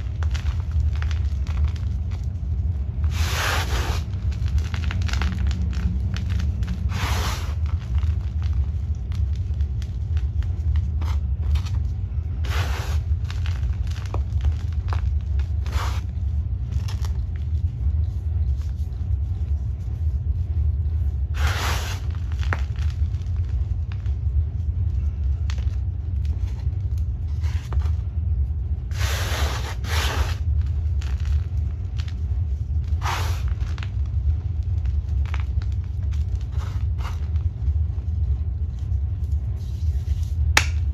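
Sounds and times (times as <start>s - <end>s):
hands crushing chalk: 0.0s - 20.4s, 21.2s - 28.1s, 28.8s - 40.9s
steady low rumble: 0.0s - 40.9s.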